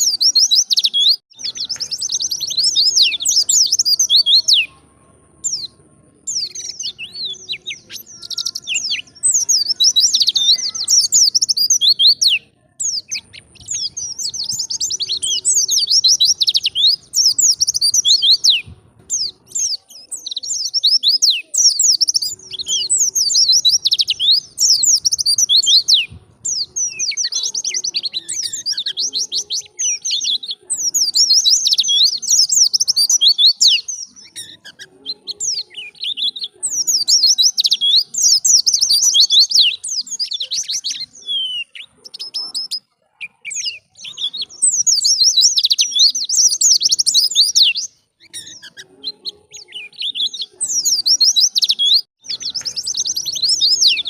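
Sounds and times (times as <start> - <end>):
bird twittering: 0.0 - 4.8, 5.4 - 54.0.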